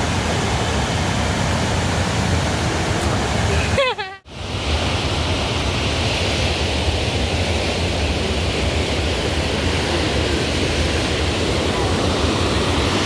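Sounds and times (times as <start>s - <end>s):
rushing falling water: 0.0s - 13.0s.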